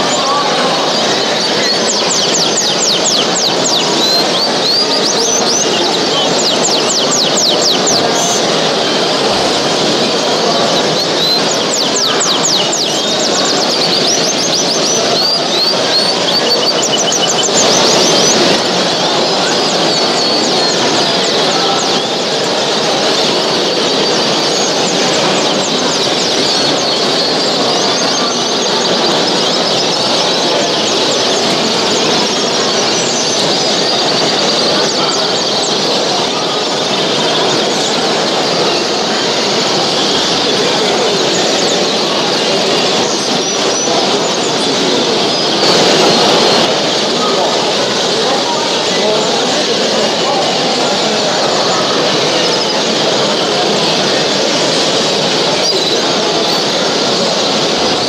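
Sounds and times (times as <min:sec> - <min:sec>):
caged birds chirping: 0:00.0 - 0:58.0
steady background din: 0:00.0 - 0:58.0.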